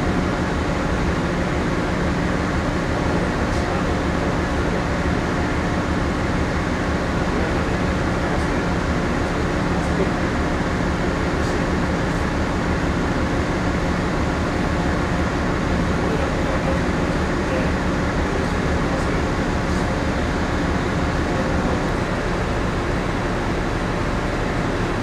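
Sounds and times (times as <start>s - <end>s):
ship machinery humming: 0.0s - 25.0s.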